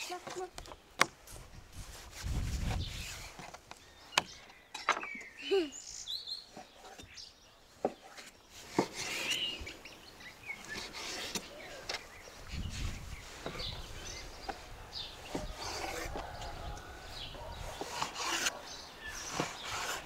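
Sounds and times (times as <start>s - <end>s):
small birds chirping: 0.0s - 1.4s, 2.6s - 20.0s.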